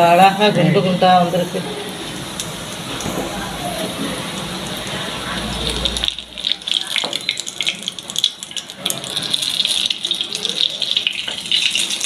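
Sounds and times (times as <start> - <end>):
hot oil sizzling and crackling: 1.2 - 12.0.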